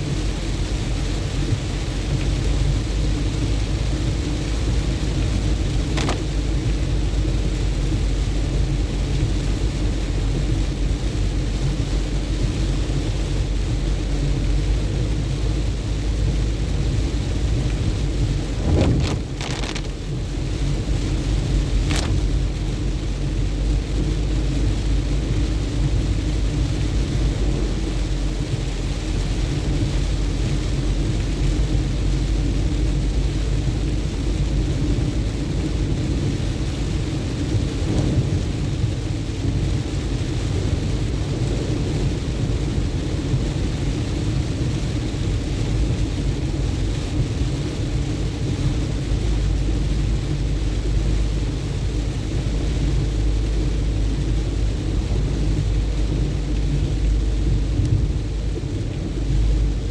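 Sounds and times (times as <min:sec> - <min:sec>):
rain hissing: 0:00.0 - 0:59.9
road and engine rumble: 0:00.0 - 0:59.9.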